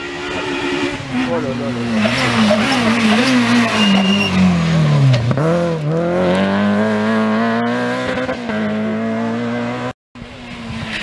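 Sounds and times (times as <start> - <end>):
car engine accelerating hard: 1.1 - 9.9.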